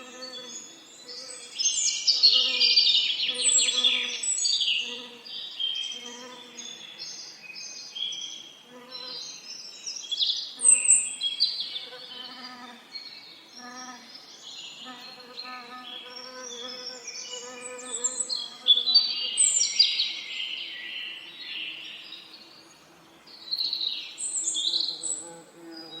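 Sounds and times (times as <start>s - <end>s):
songbirds twittering: 0.0s - 26.0s.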